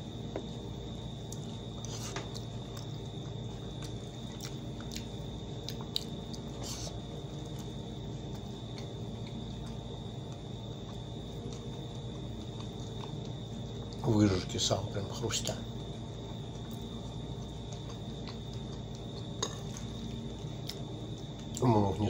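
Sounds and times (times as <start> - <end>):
cricket trill: 0.0 - 22.0
chewing: 1.2 - 14.4, 15.5 - 21.9.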